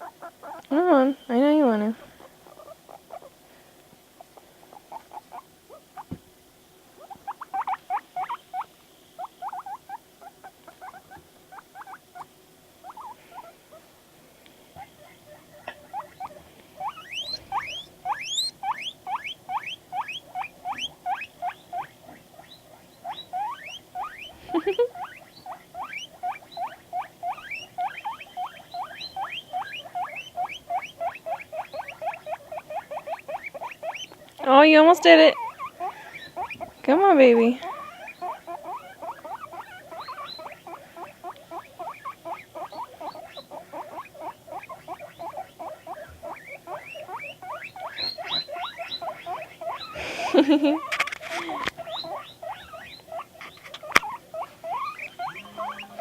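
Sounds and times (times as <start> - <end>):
guinea pig squeaking: 0.0 - 3.4, 4.2 - 6.2, 7.0 - 13.8, 14.8 - 56.0.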